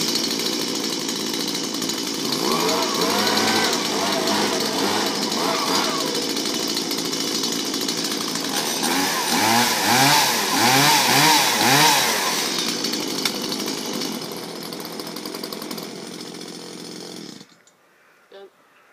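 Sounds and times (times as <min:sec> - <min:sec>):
chainsaw engine revving: 0:00.0 - 0:17.6.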